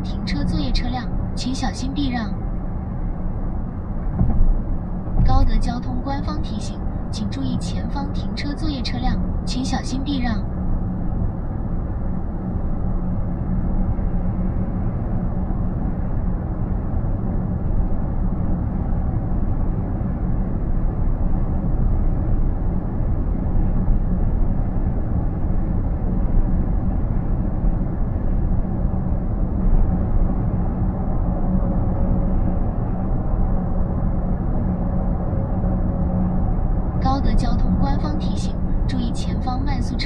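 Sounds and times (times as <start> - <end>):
road and tyre noise in car: 0.0 - 40.0.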